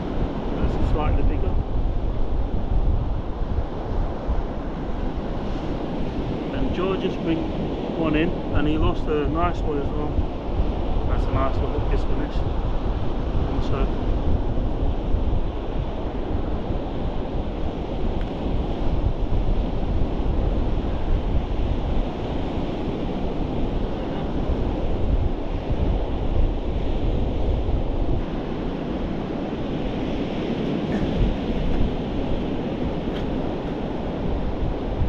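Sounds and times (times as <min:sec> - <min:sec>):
sea surf: 0:00.0 - 0:35.0
wind buffeting microphone: 0:00.0 - 0:35.0.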